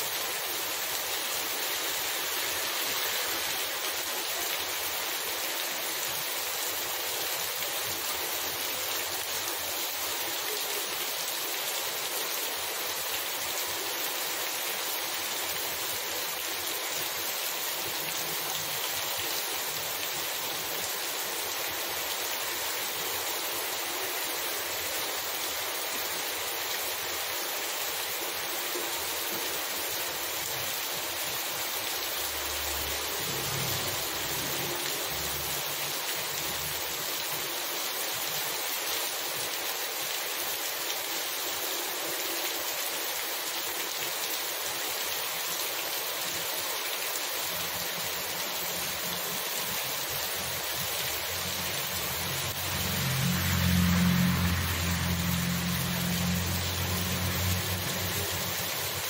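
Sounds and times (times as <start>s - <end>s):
heavy rain on wet pavement: 0.0s - 59.0s.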